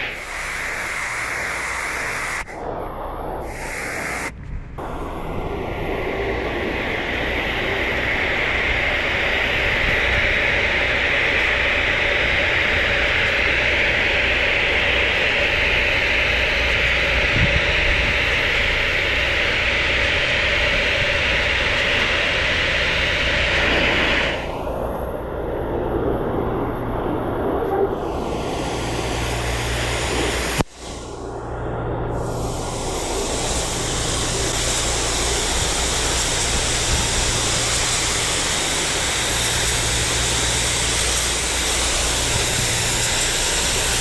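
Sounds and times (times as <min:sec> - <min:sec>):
pressure washer spraying roof tiles: 0:00.0 - 0:31.2, 0:32.1 - 0:44.0.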